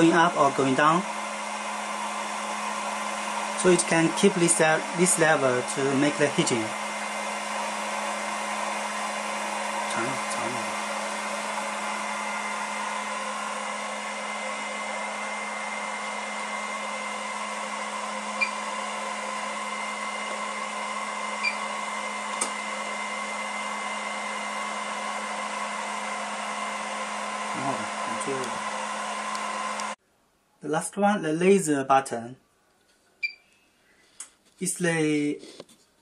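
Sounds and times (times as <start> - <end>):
blower and fan blowing: 0.0 - 30.0.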